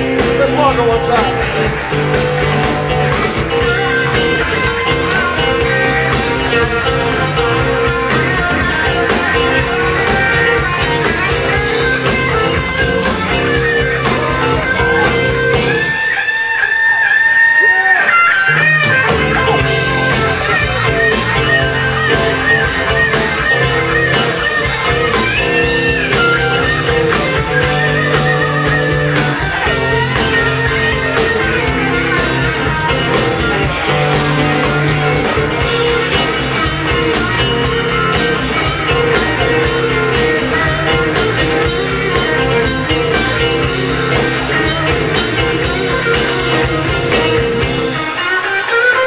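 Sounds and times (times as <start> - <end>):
bass line: 0.0 - 48.2
drum kit: 0.0 - 49.0
lead electric guitar bending notes: 0.0 - 49.0.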